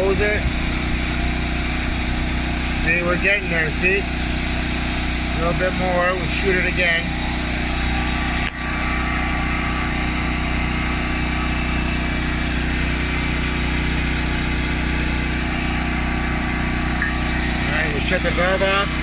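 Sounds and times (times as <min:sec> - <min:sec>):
refrigerator compressor humming: 0:00.0 - 0:19.0.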